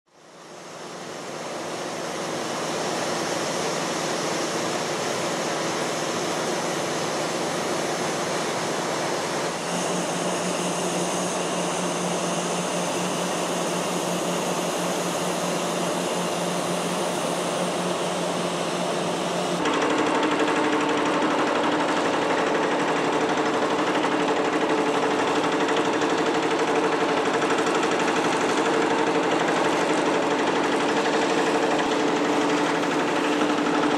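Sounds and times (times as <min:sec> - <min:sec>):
diesel air compressors running: 0:00.2 - 0:33.9
drilling machinery: 0:00.2 - 0:33.9.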